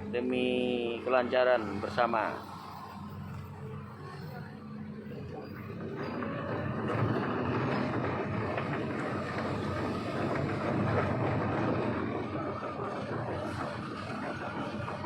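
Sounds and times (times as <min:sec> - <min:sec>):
road traffic passing slowly: 0:00.0 - 0:15.0.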